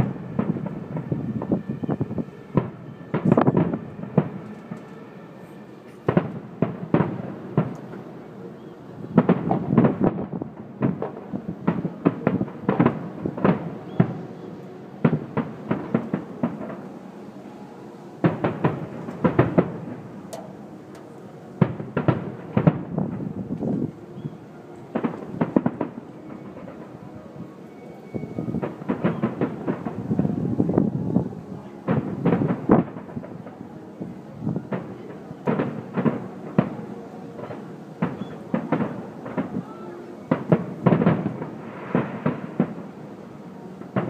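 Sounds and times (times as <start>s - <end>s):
fireworks bursting: 0.0s - 5.1s, 5.8s - 17.6s, 18.2s - 44.0s.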